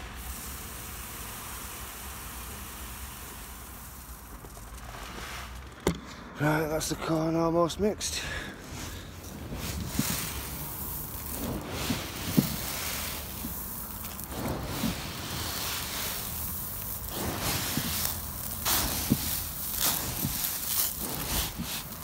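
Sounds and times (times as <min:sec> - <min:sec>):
dry grain being stirred: 0:00.0 - 0:05.8, 0:08.6 - 0:22.0.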